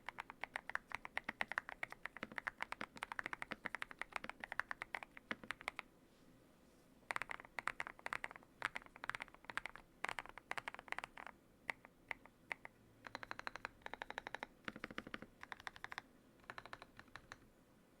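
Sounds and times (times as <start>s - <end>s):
mechanical keyboard typing: 0.0s - 5.8s, 7.1s - 17.4s.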